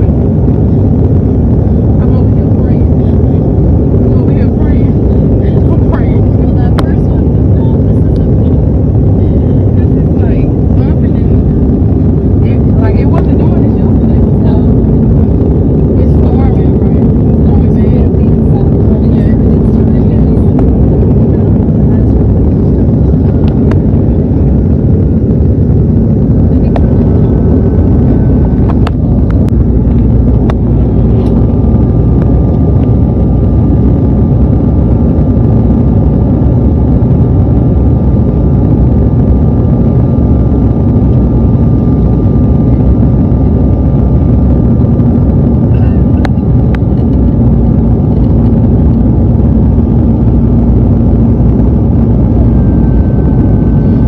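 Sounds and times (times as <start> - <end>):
jet cabin engine rush: 0.0 - 54.0.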